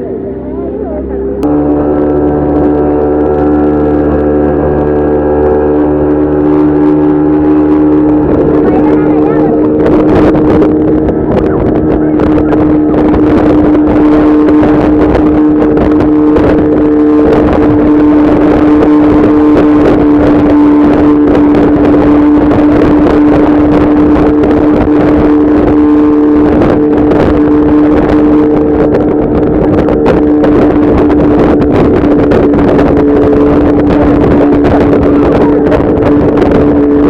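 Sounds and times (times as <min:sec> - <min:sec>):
outboard engine droning: 0:00.0 - 0:37.0
rush of wind and water: 0:00.0 - 0:37.0.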